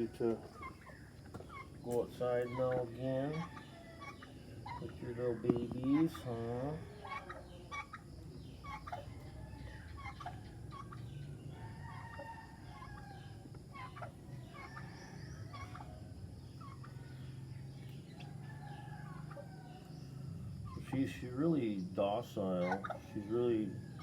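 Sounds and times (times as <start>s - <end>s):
poultry calling: 0.0s - 24.0s.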